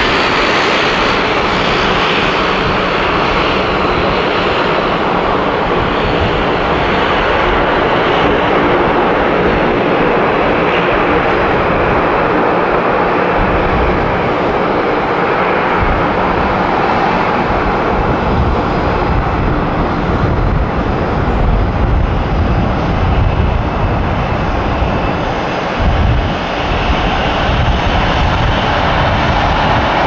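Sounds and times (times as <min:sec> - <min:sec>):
jet engine rushing: 0:00.0 - 0:30.0.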